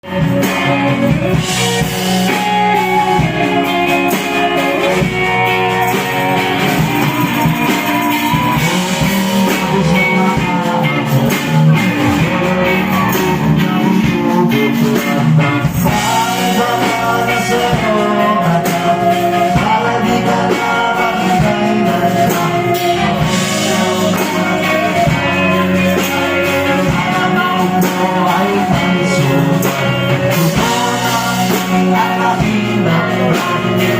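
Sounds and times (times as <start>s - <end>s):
drums: 0.0s - 33.9s
electric guitar: 0.0s - 33.9s
person singing: 0.0s - 33.9s.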